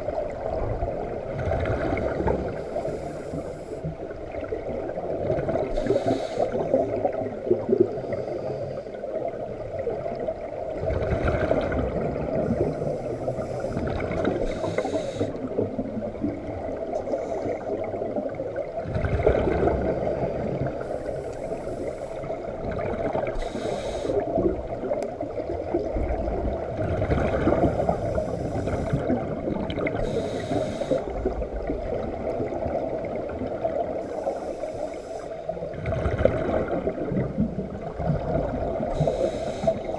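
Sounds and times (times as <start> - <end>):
gurgling exhaled bubbles: 0.0 - 34.5, 35.4 - 39.9
steady underwater rush: 0.0 - 39.9.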